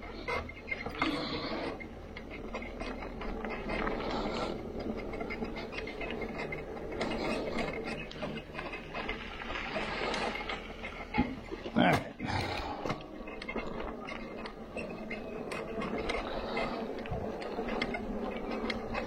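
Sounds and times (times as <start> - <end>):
tyres rolling on rough trail: 0.0 - 19.0.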